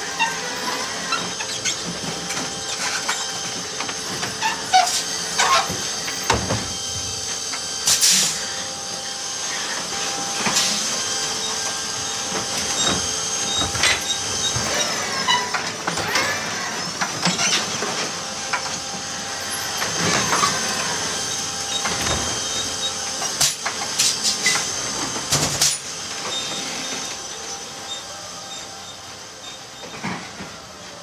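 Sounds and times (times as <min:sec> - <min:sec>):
garbage truck electric whine: 0:00.0 - 0:31.0.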